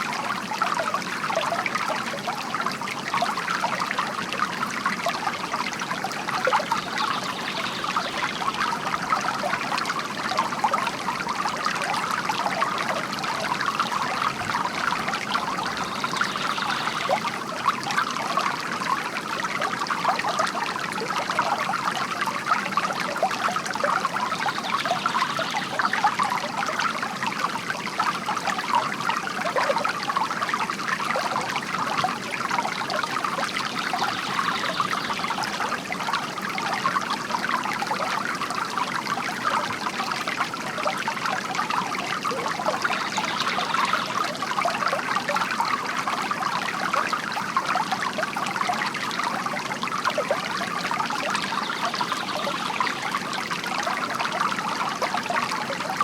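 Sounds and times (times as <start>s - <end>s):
fountain water trickling and splashing: 0.0s - 56.0s.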